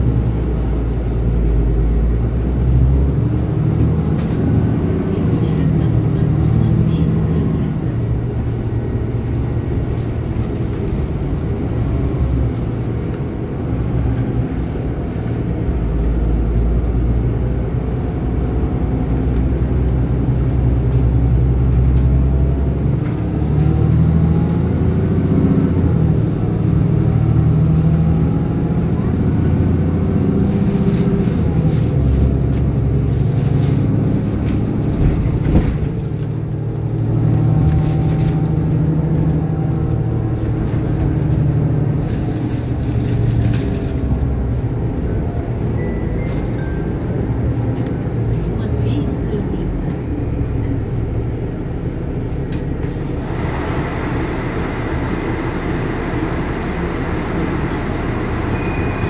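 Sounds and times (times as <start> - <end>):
bus engine hum: 0.0 - 59.0.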